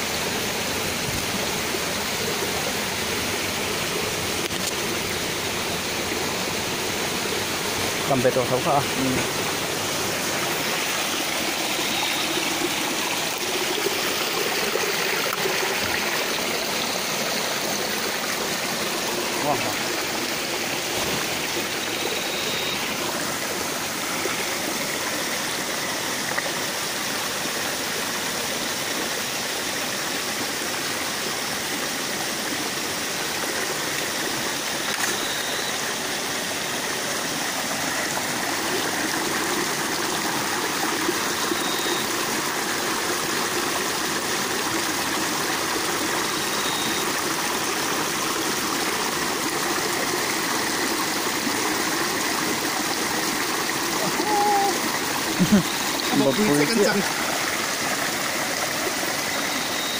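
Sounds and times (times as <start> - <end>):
water rushing over stones: 0.0 - 59.9.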